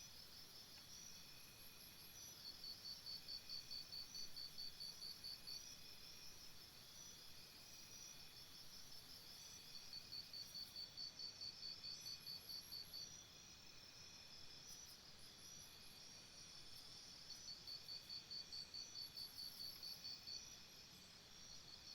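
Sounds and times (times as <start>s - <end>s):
insects chirping: 0.2s - 21.9s.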